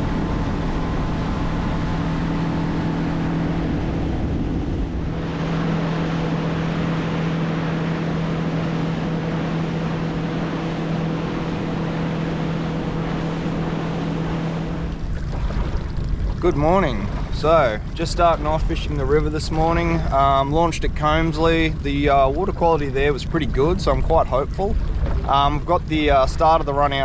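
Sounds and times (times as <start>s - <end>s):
boat motor running: 0.0s - 27.0s
water rushing: 0.0s - 27.0s
wind: 0.0s - 27.0s.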